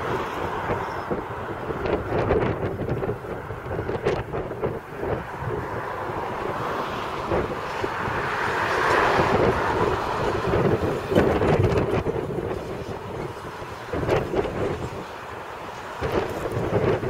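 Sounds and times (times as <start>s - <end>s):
diesel locomotive engine: 0.0s - 17.0s
wind buffeting microphone: 0.0s - 17.0s.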